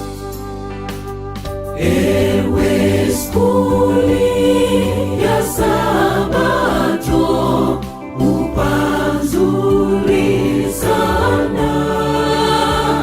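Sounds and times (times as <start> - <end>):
instrumental accompaniment: 0.0 - 13.0
choir singing gospel: 1.8 - 13.0.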